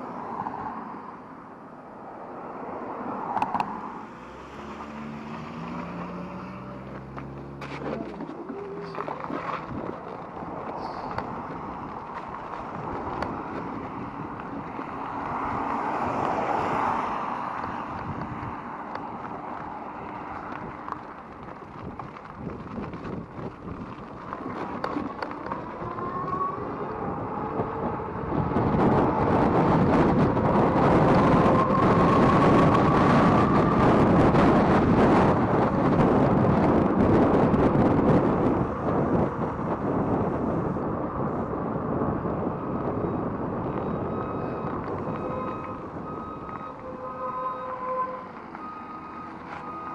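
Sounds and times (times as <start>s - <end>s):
wind buffeting microphone: 2.8s - 49.9s.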